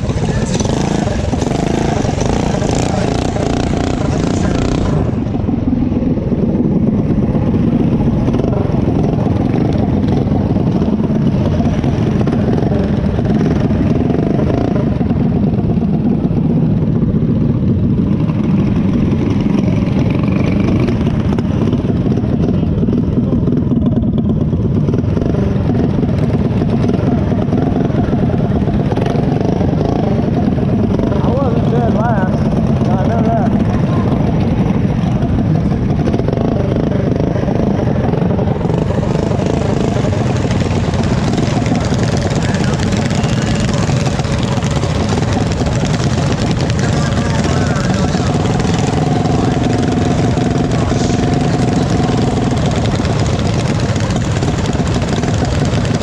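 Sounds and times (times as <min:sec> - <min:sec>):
mini bike engines running: 0:00.0 - 0:56.0.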